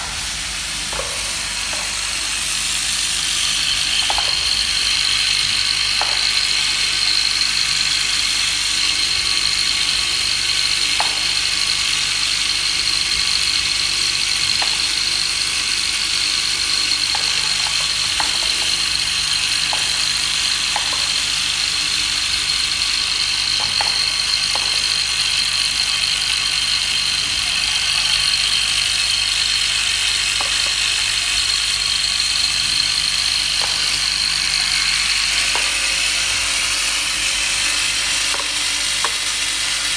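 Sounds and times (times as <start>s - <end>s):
metal parts rattling on track: 0.7s - 39.9s.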